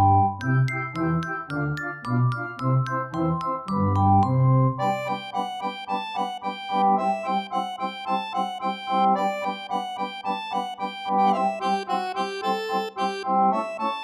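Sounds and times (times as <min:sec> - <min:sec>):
instrumental keyboard tune: 0:00.0 - 0:14.0.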